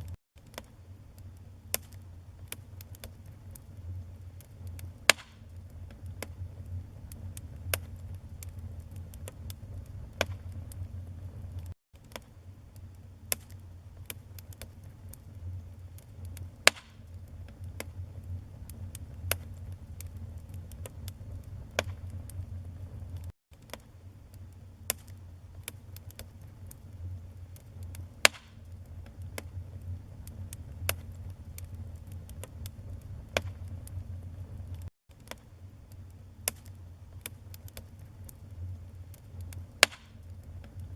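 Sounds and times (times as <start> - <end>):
logs crackling and popping: 0.0 - 40.9
low rumble of flames: 0.0 - 40.9.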